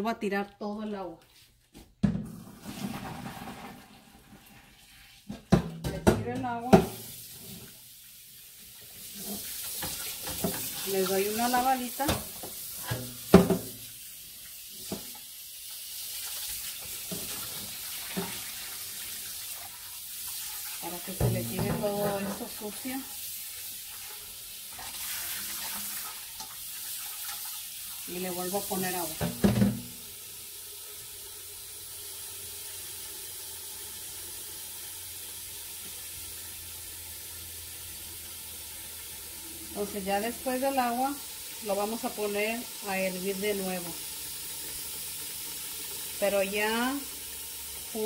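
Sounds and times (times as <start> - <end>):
faucet spraying water into a pot: 6.4 - 48.0.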